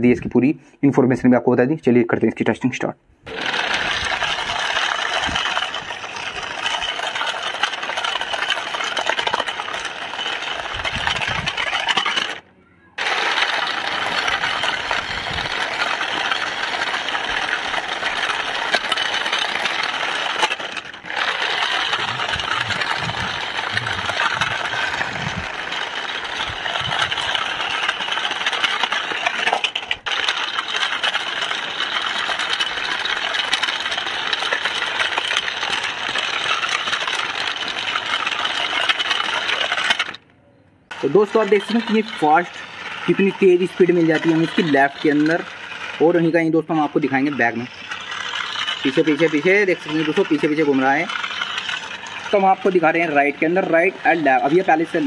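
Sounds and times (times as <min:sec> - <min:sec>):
toy truck rattling on concrete: 0:03.2 - 0:12.4, 0:13.0 - 0:40.3, 0:40.9 - 0:55.0.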